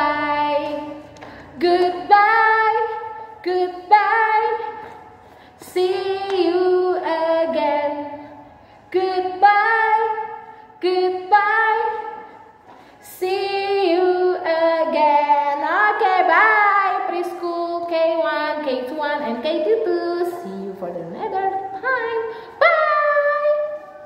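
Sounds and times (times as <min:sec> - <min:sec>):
woman singing: 0:00.0 - 0:05.0, 0:05.6 - 0:12.3, 0:13.1 - 0:24.0.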